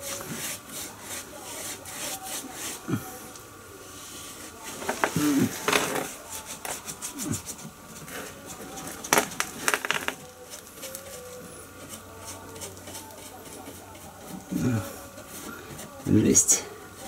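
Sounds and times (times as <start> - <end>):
paintbrush scrubbing on metal: 0.0 - 17.0.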